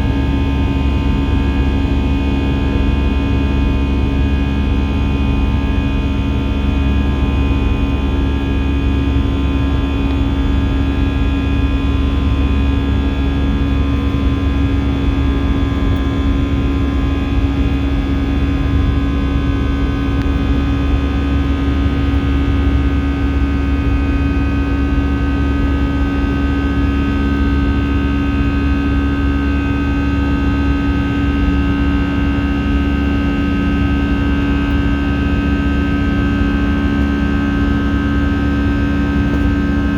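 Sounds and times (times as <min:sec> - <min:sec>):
jet engine cabin drone: 0:00.0 - 0:39.9
steady whining tones: 0:00.0 - 0:39.9.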